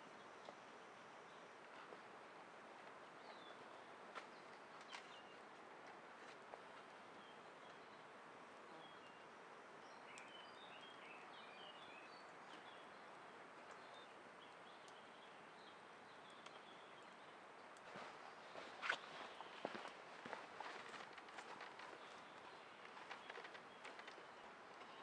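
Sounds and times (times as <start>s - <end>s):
soft steady hiss: 0.0s - 25.0s.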